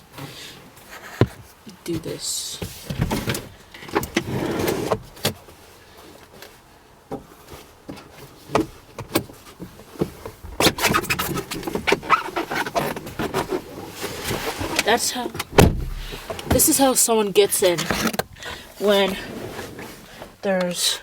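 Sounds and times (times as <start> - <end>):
car seat clicking and sliding: 0.1 - 20.8.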